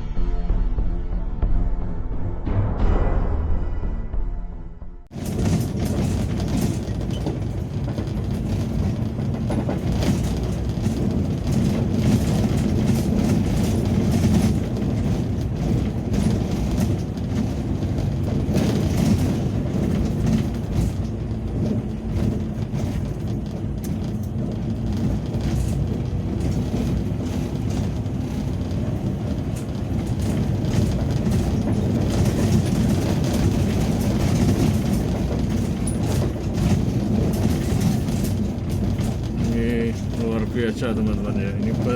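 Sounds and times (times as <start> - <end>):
engine and road rumble: 5.0 - 41.9
rattles and knocks: 5.1 - 41.9.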